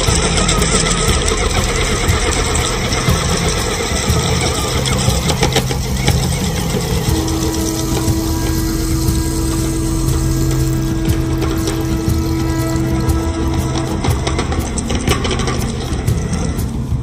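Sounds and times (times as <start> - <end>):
crackles: 0.0 - 17.0
motor rumbling: 0.0 - 17.0
steady hum: 0.0 - 17.0.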